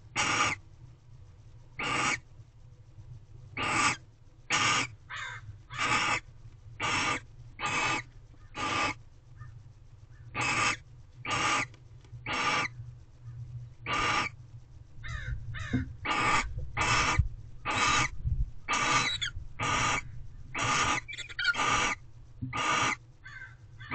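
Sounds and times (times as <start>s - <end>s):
barn owls hissing calls: 0.1s - 0.6s, 1.8s - 2.2s, 3.6s - 9.5s, 10.1s - 14.4s, 15.0s - 23.9s.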